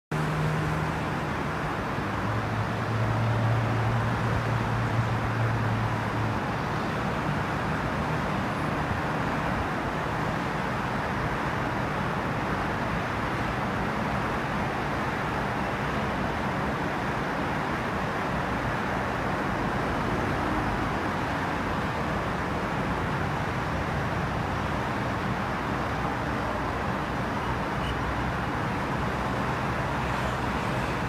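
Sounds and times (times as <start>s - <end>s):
city traffic: 0.1s - 31.0s.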